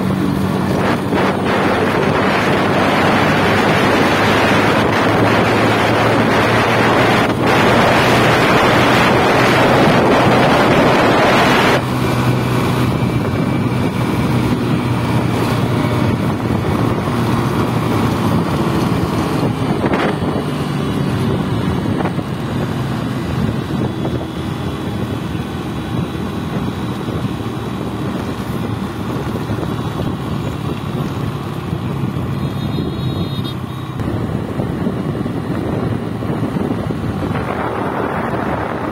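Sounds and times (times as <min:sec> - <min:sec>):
scooter engine hum: 0:00.0 - 0:38.9
wind rushing over microphone: 0:00.0 - 0:38.9.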